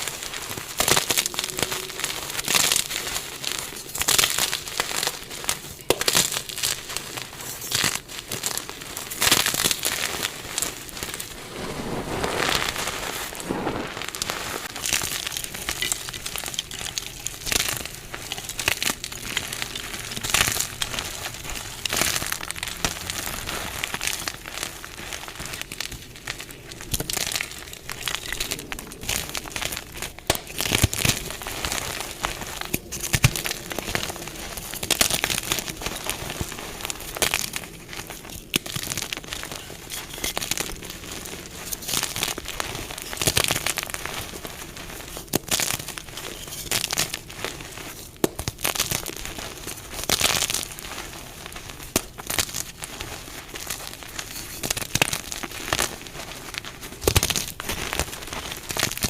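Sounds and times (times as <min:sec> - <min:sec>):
chalk blocks crunching: 0:00.0 - 0:59.0.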